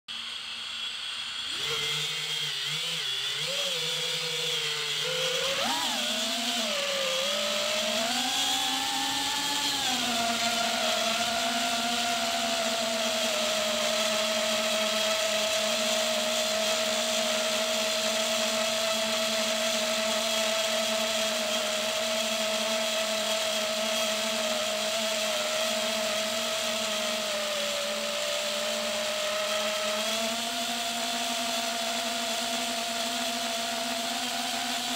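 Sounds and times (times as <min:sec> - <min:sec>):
drone motors and propellers whining: 0:00.1 - 0:34.9.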